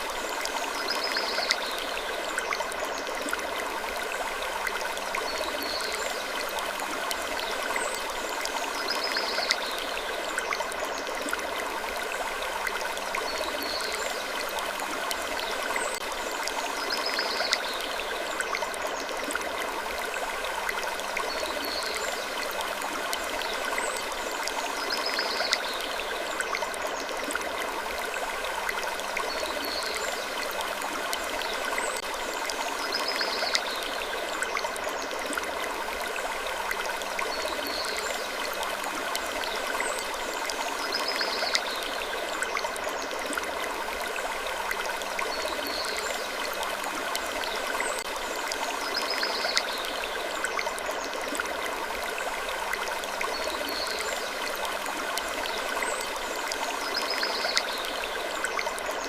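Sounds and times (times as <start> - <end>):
rushing water-like noise: 0.0 - 59.0.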